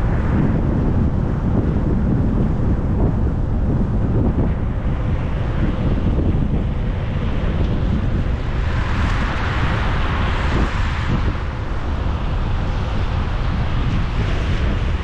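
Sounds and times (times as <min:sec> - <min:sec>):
car road noise rumble: 0:00.0 - 0:15.0
wind buffeting microphone: 0:00.0 - 0:15.0.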